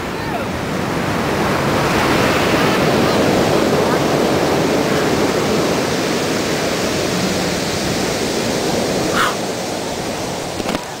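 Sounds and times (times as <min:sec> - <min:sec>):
surf breaking over rocks: 0:00.1 - 0:11.0.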